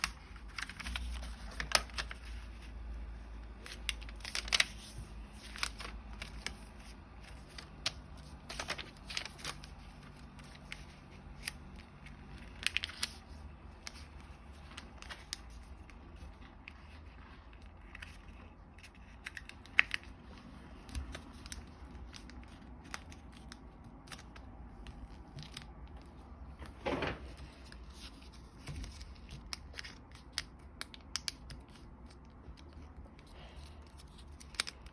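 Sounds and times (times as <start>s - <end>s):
paper folding and creasing: 0.0s - 34.9s.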